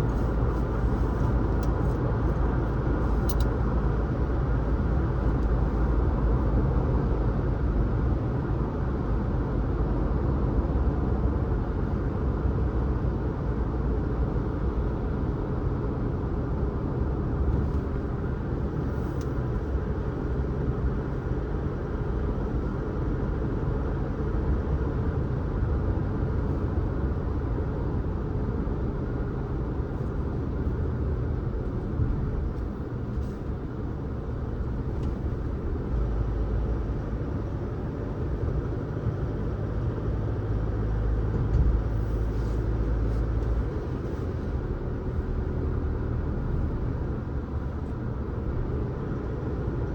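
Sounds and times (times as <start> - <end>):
car road and engine noise: 0.0 - 49.9.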